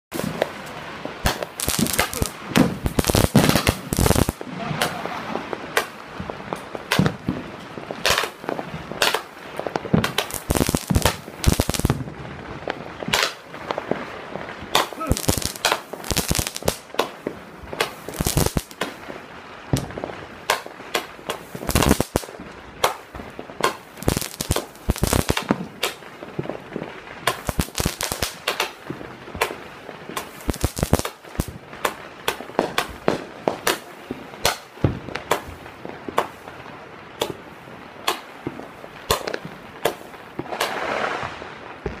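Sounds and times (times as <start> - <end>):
fireworks bangs and pops: 0.1 - 42.0.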